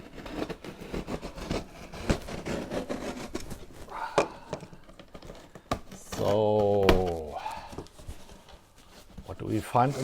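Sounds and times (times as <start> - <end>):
cardboard scraping and rubbing: 0.0 - 10.0.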